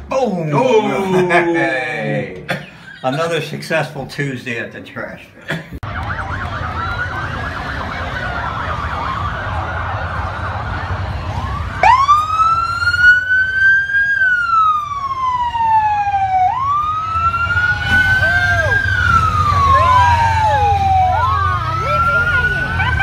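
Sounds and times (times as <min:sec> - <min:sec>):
siren wail: 0:00.5 - 0:02.4, 0:05.8 - 0:23.0.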